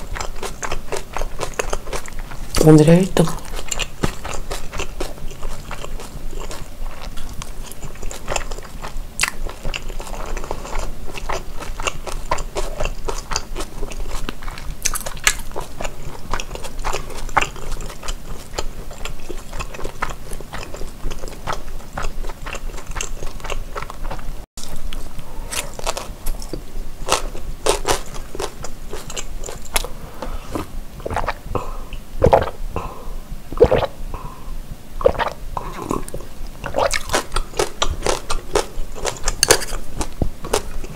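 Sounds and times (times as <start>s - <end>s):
person biting and chewing: 3.4s - 31.4s, 32.2s - 32.6s, 33.6s - 34.0s, 35.0s - 40.9s.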